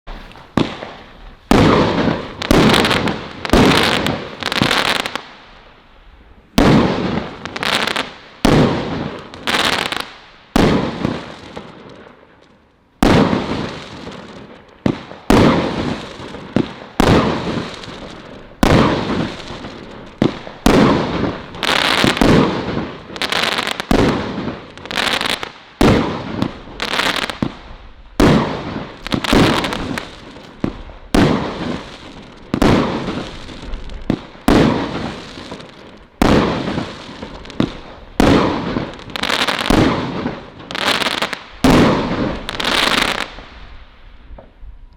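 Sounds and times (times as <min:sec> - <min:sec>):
firework shots crackling: 0:00.1 - 0:05.8, 0:06.5 - 0:44.6.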